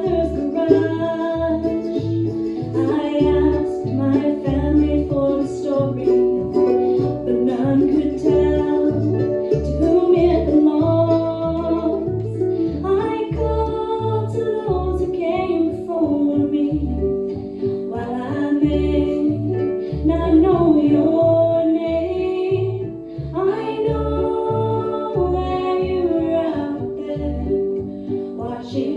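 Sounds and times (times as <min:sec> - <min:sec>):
harp: 0:00.0 - 0:28.9
mandolin playing melody: 0:00.0 - 0:28.9
upright bass plucking low notes: 0:00.0 - 0:28.9.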